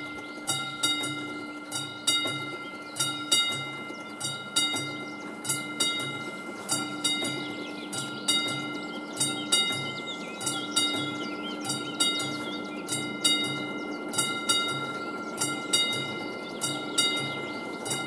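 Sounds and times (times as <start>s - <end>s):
level crossing bell ringing: 0.0s - 18.0s.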